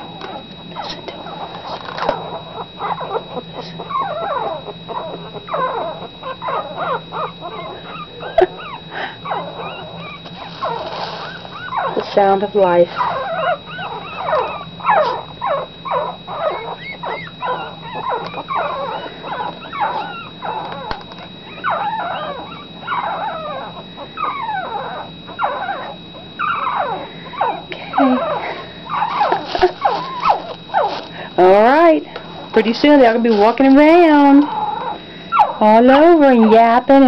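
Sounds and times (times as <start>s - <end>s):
puppies whimpering and squeaking: 0.0s - 37.0s.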